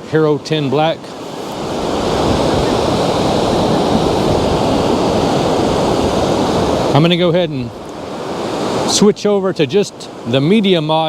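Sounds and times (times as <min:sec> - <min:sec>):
wind: 0:00.0 - 0:11.0
surf: 0:00.1 - 0:11.0.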